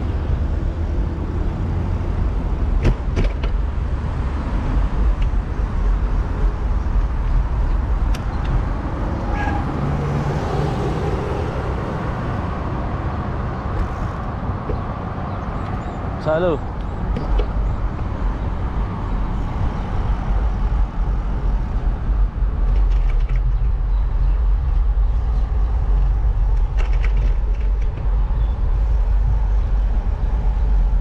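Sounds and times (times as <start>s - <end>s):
road traffic: 0.0s - 31.0s
wind rumble on microphone: 0.0s - 31.0s.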